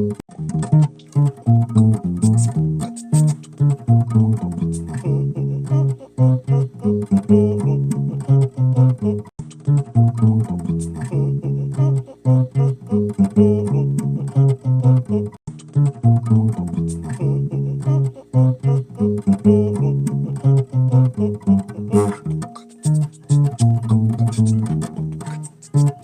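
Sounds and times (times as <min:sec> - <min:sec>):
bass guitar riff: 0:00.0 - 0:26.0.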